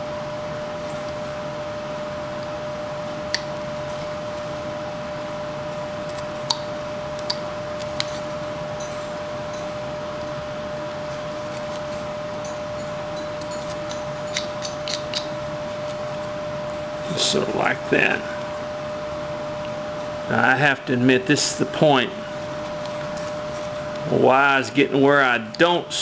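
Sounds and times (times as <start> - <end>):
steady hiss and hum: 0.0 - 26.0.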